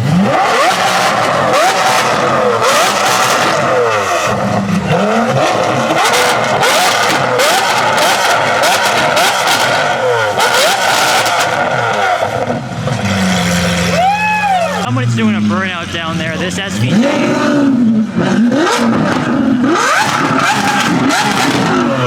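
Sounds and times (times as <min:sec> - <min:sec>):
car engines revving in blips: 0:00.0 - 0:22.0
exhaust crackles: 0:00.0 - 0:22.0.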